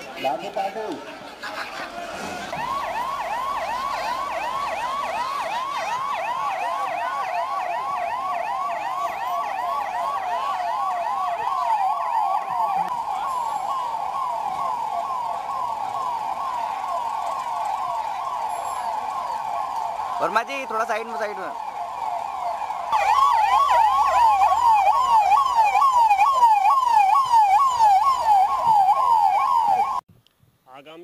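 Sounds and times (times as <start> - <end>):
siren in fast yelp: 2.6 - 30.0.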